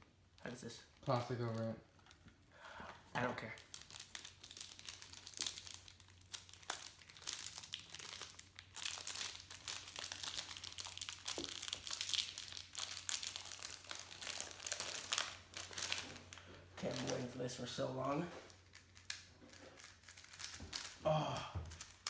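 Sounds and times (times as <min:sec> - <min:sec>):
plastic wrapping crinkling: 0:00.4 - 0:02.4, 0:03.1 - 0:22.0.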